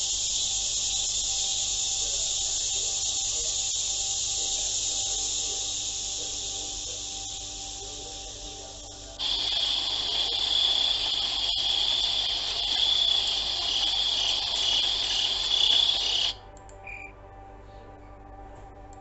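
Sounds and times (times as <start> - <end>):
high-pitched insect trilling: 0.0 - 17.1.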